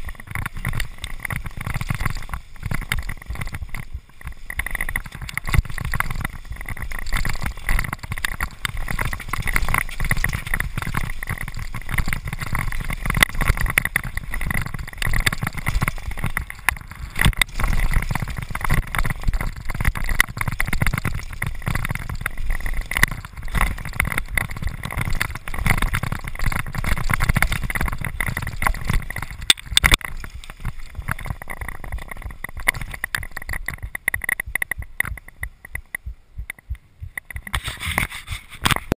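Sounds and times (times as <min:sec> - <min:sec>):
bike rattling: 0:00.0 - 0:38.9
wind rumbling on microphone: 0:00.0 - 0:38.9.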